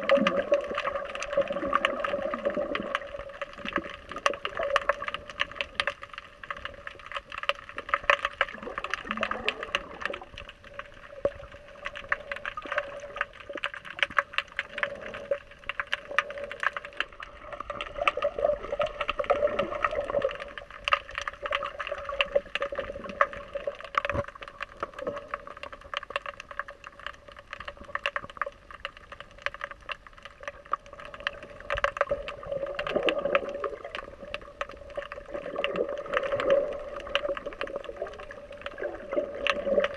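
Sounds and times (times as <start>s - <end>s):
fine crackling clicks underwater: 0.0s - 39.9s
water gurgling and sloshing: 0.0s - 39.9s.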